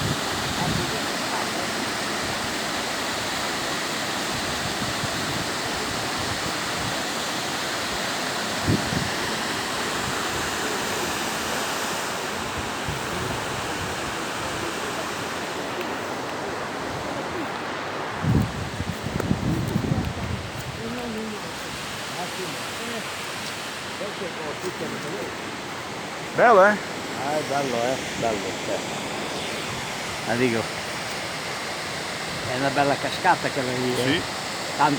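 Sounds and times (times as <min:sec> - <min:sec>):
waterfall rushing: 0:00.0 - 0:19.6, 0:20.4 - 0:34.9.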